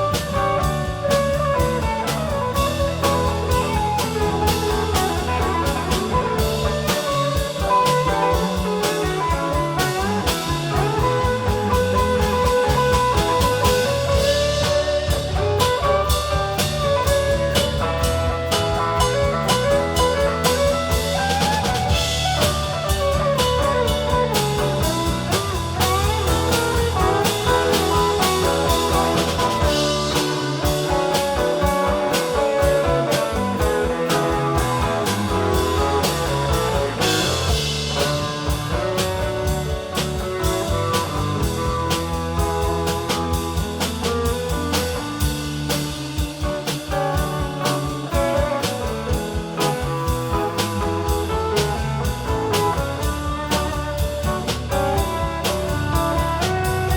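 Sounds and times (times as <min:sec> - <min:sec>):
rock band playing: 0:00.0 - 0:56.9.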